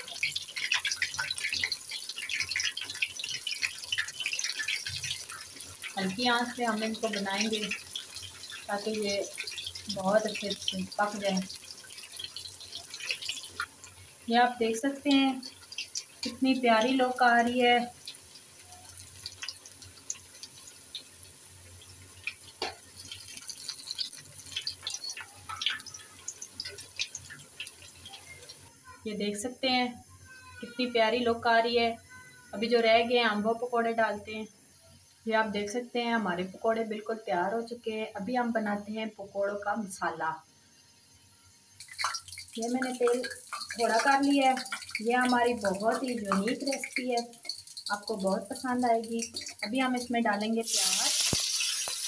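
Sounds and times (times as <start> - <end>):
deep-frying in hot oil: 0.0 - 52.0.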